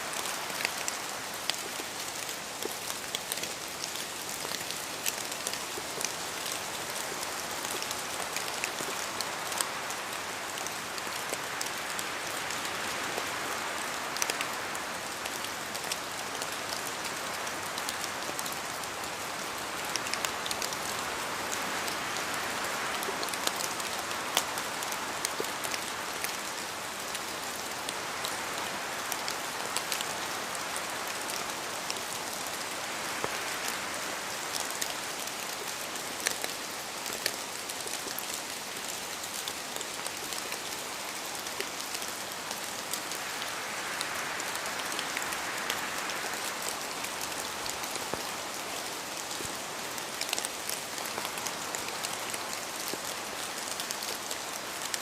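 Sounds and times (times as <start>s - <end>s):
rain hiss: 0.0s - 55.0s
wind: 0.0s - 55.0s.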